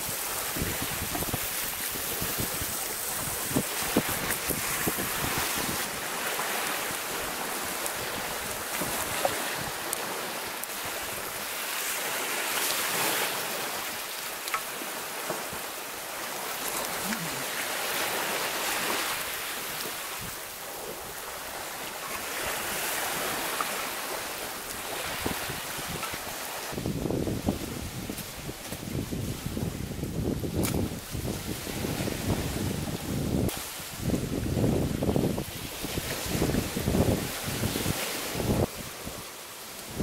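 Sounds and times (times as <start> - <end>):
sea waves washing on shore: 0.0 - 40.0.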